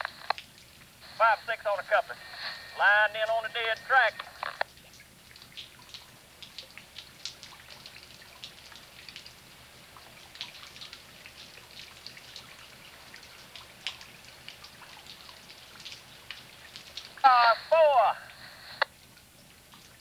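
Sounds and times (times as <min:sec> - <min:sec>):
faint steady hiss: 0:00.0 - 0:20.0
rain dripping: 0:00.0 - 0:20.0.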